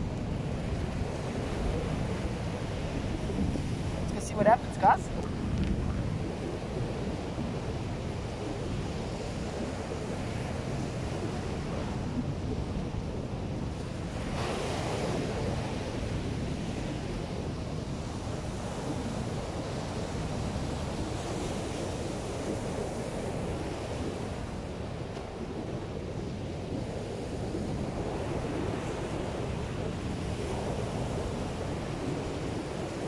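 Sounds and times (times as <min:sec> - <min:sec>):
surf breaking on beach: 0:00.0 - 0:33.0
wind buffeting microphone: 0:00.0 - 0:33.0.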